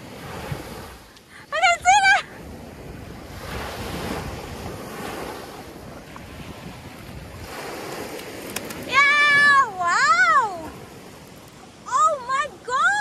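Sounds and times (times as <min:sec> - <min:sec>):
wind on microphone: 0:00.0 - 0:01.1, 0:01.7 - 0:12.0
waves washing onto beach: 0:00.0 - 0:13.0.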